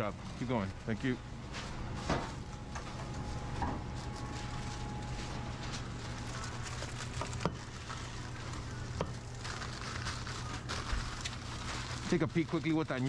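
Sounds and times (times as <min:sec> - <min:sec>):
low hum of equipment: 0:00.0 - 0:13.0.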